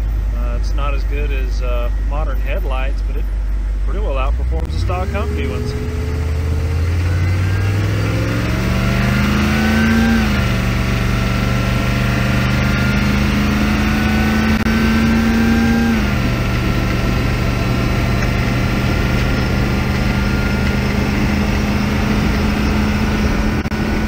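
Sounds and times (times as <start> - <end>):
diesel engine drone inside cab: 0.0 - 24.0
drivetrain high whine: 0.0 - 24.0.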